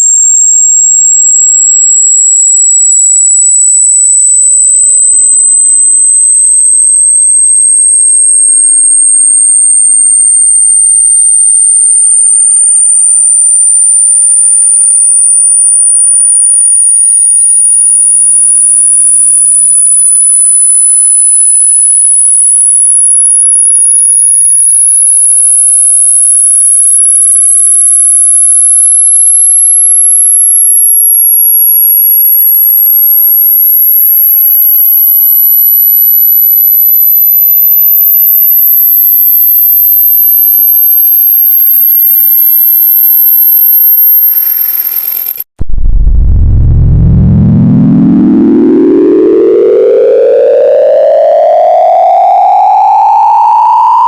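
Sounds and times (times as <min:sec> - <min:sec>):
high-pitched electronic sine tone: 0:00.0 - 0:54.0.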